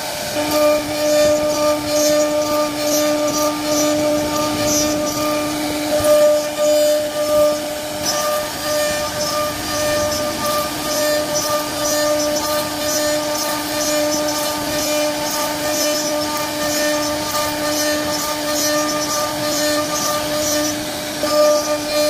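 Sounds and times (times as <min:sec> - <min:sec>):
router bit cutting wood: 0:00.0 - 0:22.0
router spindle whining: 0:00.0 - 0:22.0.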